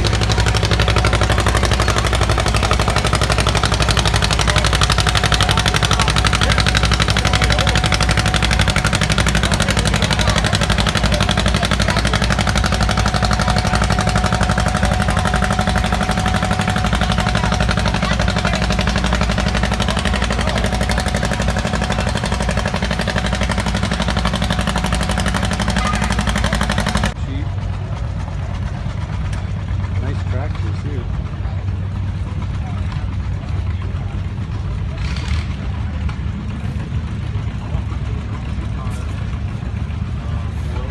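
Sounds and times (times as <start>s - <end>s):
tractor engine running at high revs: 0.0s - 40.9s.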